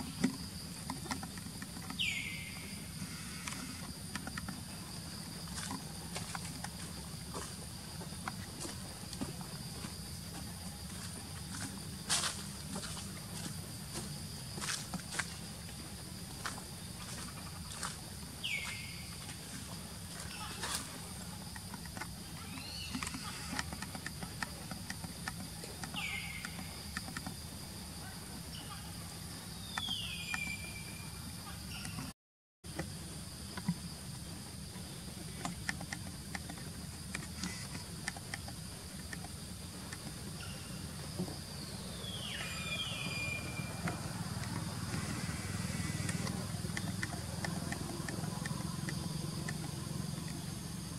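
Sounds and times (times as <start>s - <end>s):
steady low hum: 0.0s - 32.0s, 32.7s - 50.9s.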